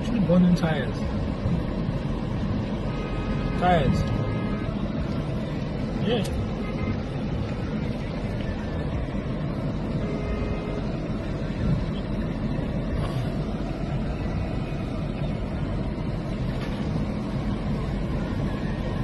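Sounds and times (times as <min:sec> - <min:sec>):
car interior road and engine rumble: 0:00.0 - 0:19.0.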